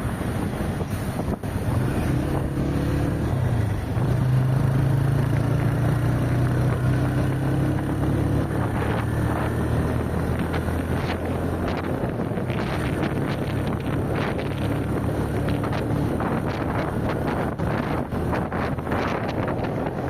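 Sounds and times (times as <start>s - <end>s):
car engine hum: 0.0s - 20.0s
road and wind noise: 0.0s - 20.0s.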